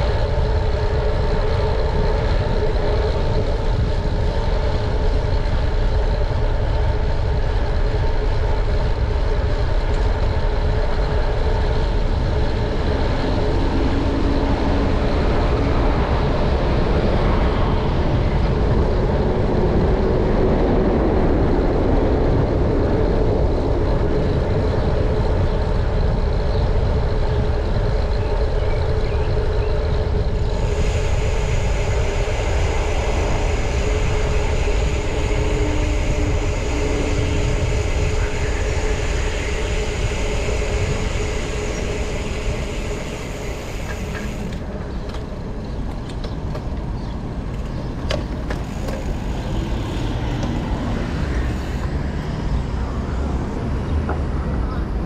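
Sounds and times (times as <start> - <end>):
high steady whine: 0.0 - 55.0
motor vehicles humming: 0.0 - 55.0
wind rumble on microphone: 0.0 - 55.0.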